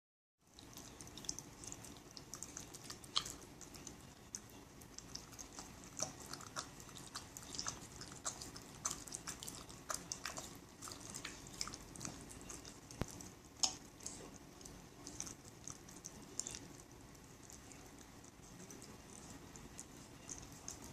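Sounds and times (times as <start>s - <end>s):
dog smacking and chewing: 0.6s - 20.9s.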